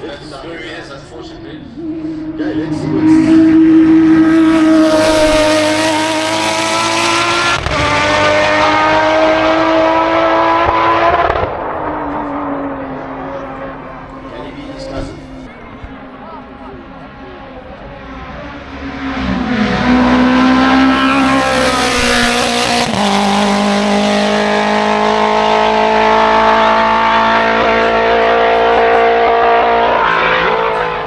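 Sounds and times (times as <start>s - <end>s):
race car engine at high revs: 1.4s - 31.0s.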